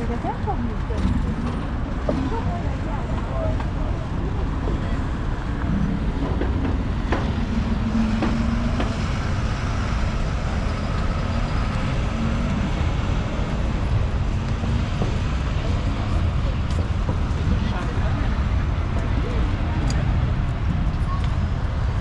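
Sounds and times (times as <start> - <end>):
heavy vehicle engine drone: 0.0 - 22.0
traffic rumble: 0.0 - 22.0.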